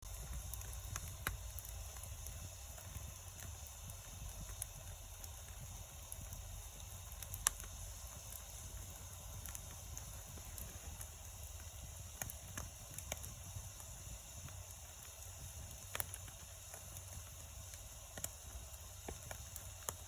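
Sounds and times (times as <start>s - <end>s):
low steady rumble: 0.0s - 20.0s
wood fire crackling and popping: 0.0s - 20.0s.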